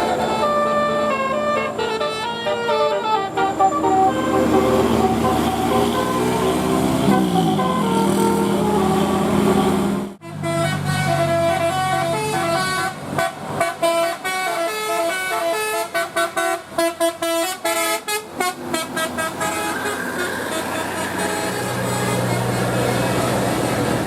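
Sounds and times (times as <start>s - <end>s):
bus engine running: 0.0s - 24.0s
musical bus horn playing a tune: 0.0s - 24.0s.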